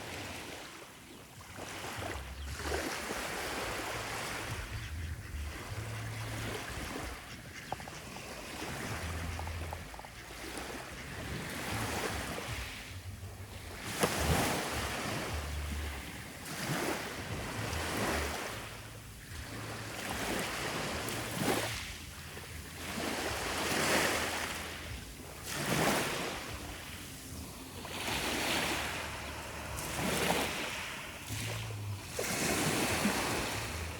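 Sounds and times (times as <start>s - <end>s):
waves washing in: 0.0s - 33.9s.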